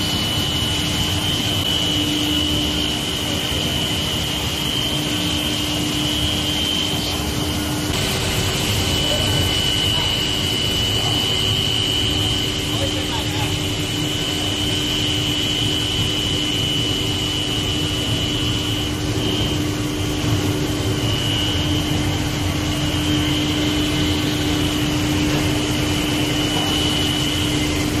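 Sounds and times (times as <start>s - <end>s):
machine high whine: 0.0s - 28.0s
machine low hum: 0.0s - 28.0s.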